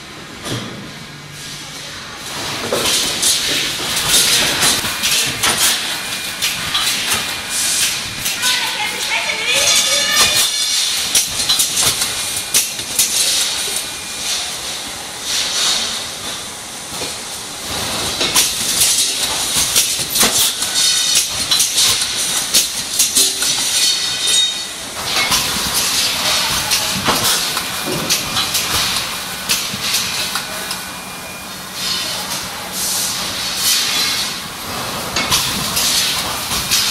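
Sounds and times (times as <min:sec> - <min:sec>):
machinery clicks and clatter: 0:02.2 - 0:14.6, 0:15.2 - 0:30.9, 0:31.8 - 0:36.9.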